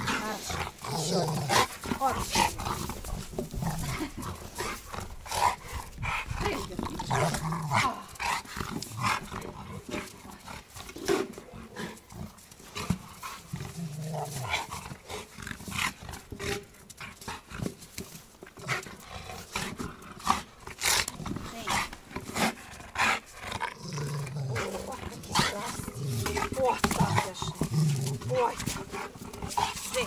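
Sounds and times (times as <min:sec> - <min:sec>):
dog growling and grunting: 0:00.0 - 0:17.6, 0:18.6 - 0:30.0.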